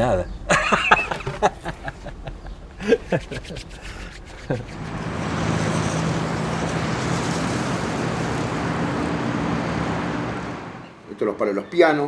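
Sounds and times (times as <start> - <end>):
road noise: 0.0 - 12.0
vehicle engine hum: 1.2 - 11.1.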